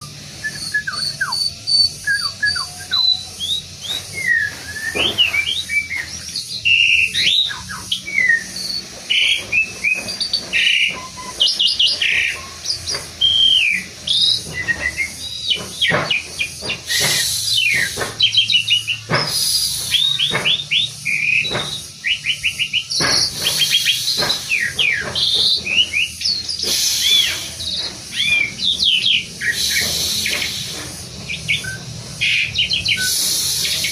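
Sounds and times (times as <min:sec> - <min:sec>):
harsh scratchy bird calls: 0:00.0 - 0:33.9
starling singing: 0:00.0 - 0:33.9.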